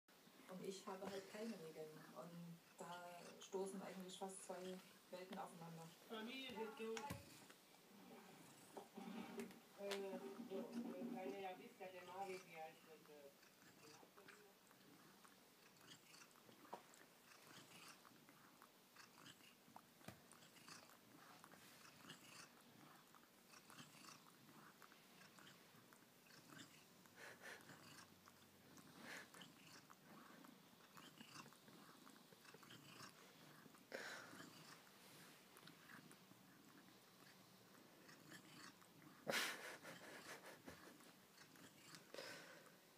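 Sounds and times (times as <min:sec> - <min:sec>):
cat licking and nibbling: 0:08.5 - 0:42.9.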